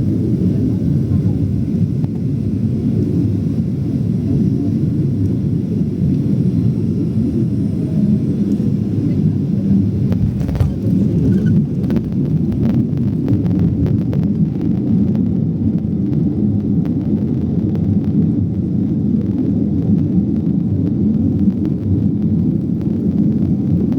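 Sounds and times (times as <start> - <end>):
aircraft engines roaring in cabin: 0.0 - 23.9.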